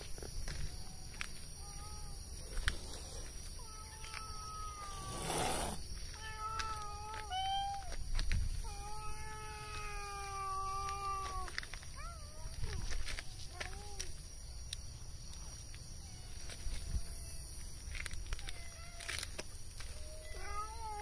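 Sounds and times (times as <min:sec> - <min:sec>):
cats meowing: 0:00.9 - 0:02.6, 0:03.5 - 0:14.3, 0:16.0 - 0:21.0.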